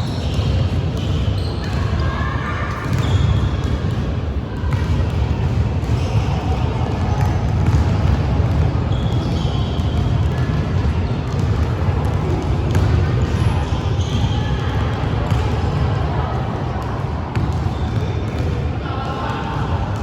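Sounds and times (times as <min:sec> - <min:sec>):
basketball bouncing on gym floor: 0:00.0 - 0:02.1, 0:02.8 - 0:18.7.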